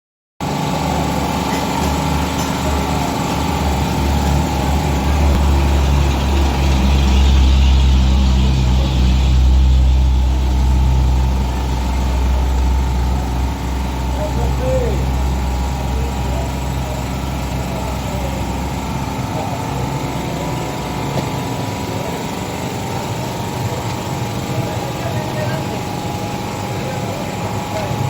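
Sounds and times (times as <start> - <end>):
low engine hum: 0.4 - 28.0.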